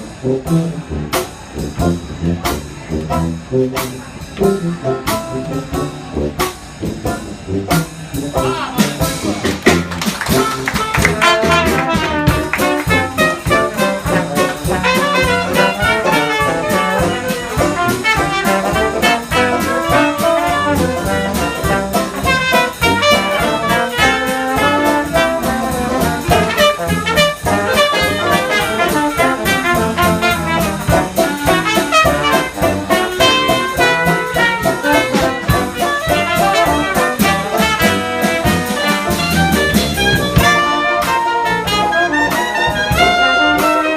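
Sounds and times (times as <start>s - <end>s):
live jazz band with brass horns: 0.0s - 43.9s.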